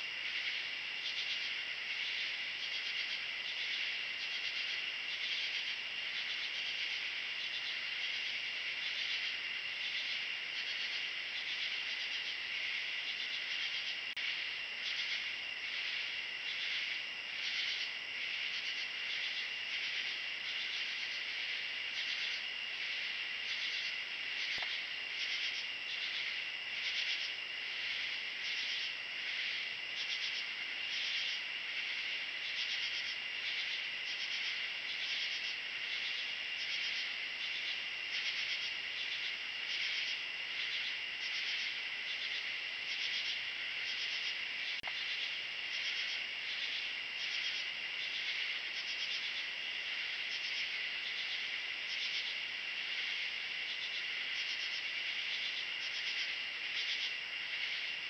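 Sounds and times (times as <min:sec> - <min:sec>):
insects trilling: 0:00.0 - 0:58.0
rhythmic pulsing insect call: 0:00.0 - 0:58.0.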